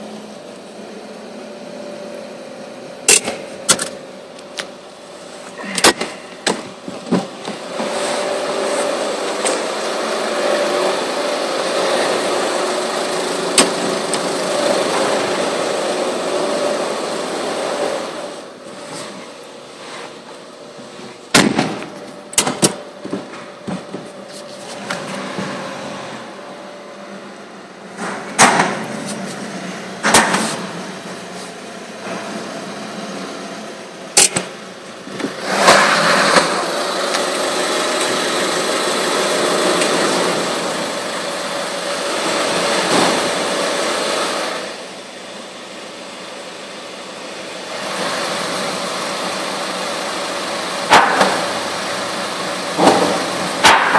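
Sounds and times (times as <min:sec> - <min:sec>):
car lift mechanical running: 0:00.0 - 0:53.9.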